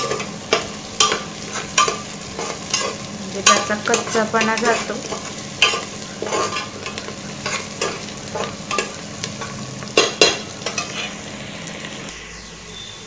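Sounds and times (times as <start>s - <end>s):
metal spatula scraping pan: 0.0s - 11.3s
onion sizzling in oil: 0.0s - 13.0s.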